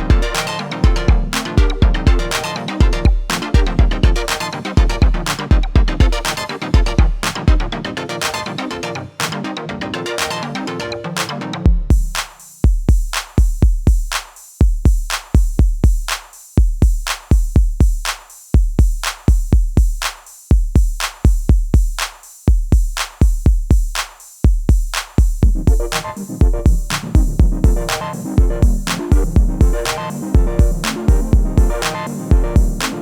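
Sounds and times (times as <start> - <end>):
electronic drum machine beat: 0.0 - 9.4, 11.2 - 33.0.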